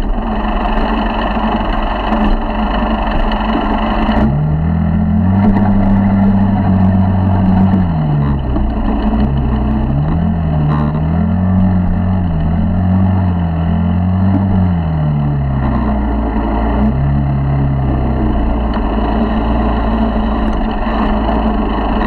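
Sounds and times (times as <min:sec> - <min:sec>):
small motorbike engine: 0:00.0 - 0:22.0.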